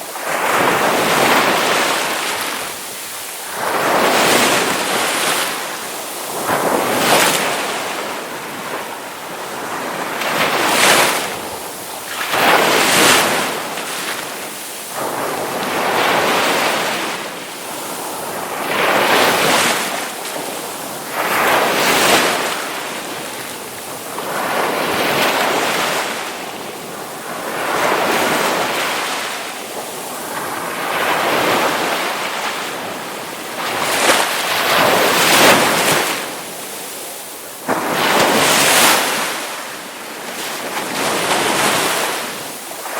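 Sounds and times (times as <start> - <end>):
ocean waves breaking on shore: 0.0 - 42.9
surf washing: 0.0 - 42.9.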